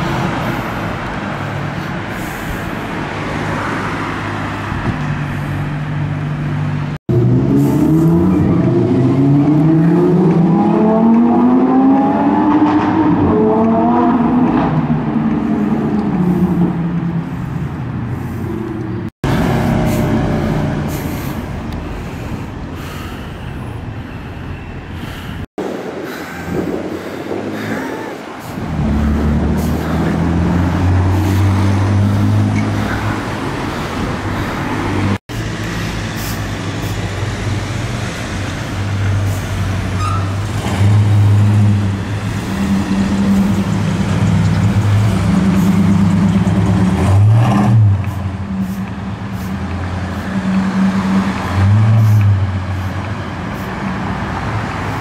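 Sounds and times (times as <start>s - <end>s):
street traffic engines: 0.0s - 55.0s.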